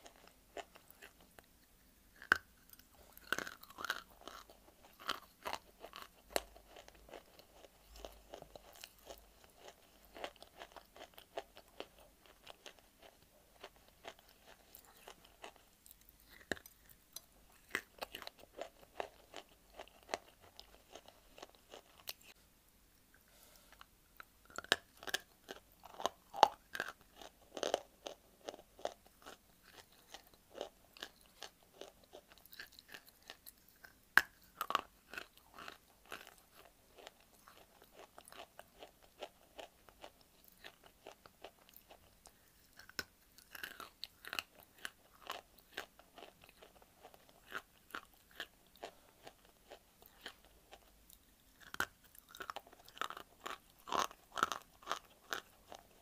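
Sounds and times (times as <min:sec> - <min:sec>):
crunching and chewing clay: 0:00.0 - 0:22.4, 0:23.8 - 0:56.0.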